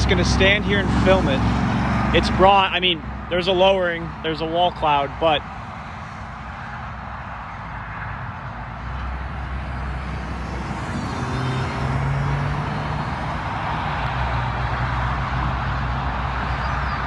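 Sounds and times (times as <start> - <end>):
highway traffic noise: 0.0 - 17.0
vehicle engine low hum: 0.0 - 17.0.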